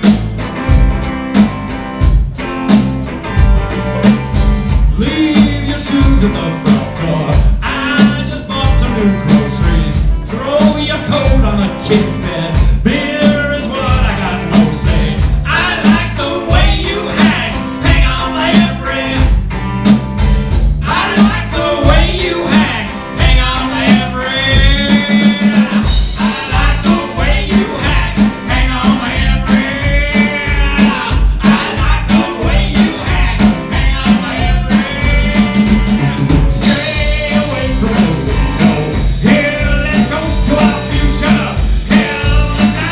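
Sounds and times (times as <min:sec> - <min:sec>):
electric guitars: 0:00.0 - 0:42.9
upright bass: 0:00.0 - 0:42.9
man singing: 0:04.9 - 0:19.4, 0:20.8 - 0:42.9.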